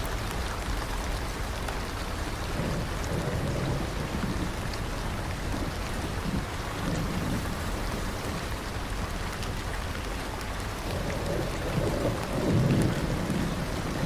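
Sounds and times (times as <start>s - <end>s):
rain pattering: 0.0s - 14.0s
raindrops ticking: 0.0s - 14.0s.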